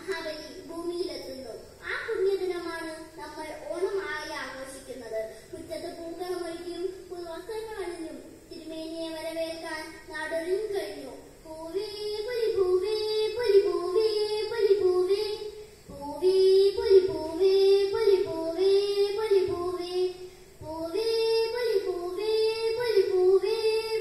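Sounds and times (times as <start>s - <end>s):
girl singing into a microphone: 0.0s - 24.0s.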